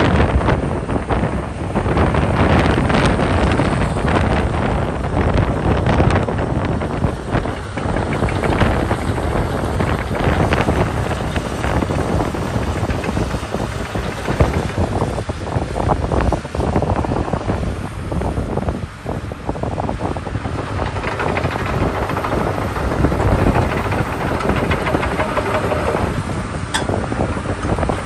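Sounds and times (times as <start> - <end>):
wind buffeting microphone: 0.0 - 28.0
excavator diesel engine running: 0.1 - 28.0.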